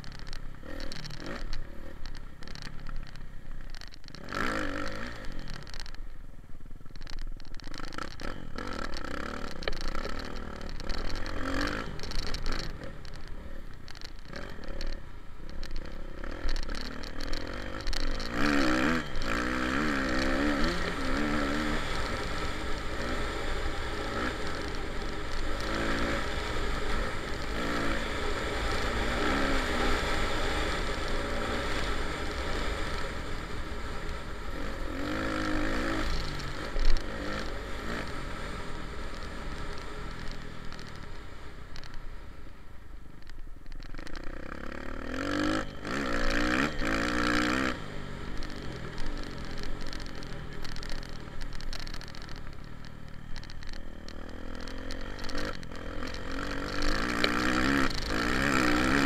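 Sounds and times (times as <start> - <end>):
dirt bike engine revving: 0.1 - 2.7, 4.1 - 5.8, 7.6 - 41.9, 43.8 - 59.0.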